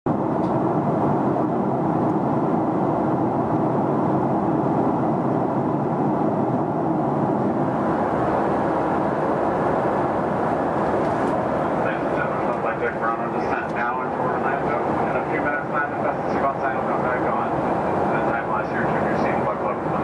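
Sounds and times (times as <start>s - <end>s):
airplane cabin noise: 0.1s - 20.0s
jet engine noise: 0.1s - 20.0s
rush of airflow: 0.1s - 20.0s.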